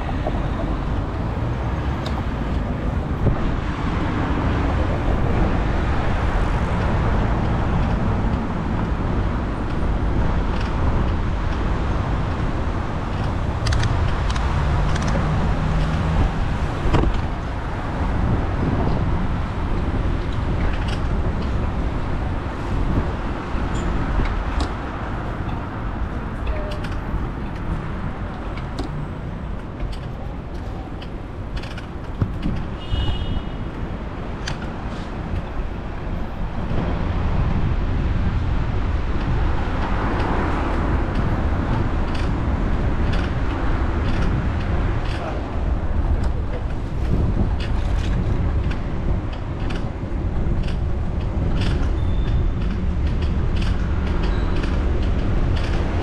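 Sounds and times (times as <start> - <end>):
passing traffic: 0.0 - 56.0
wind and road rumble: 0.0 - 56.0.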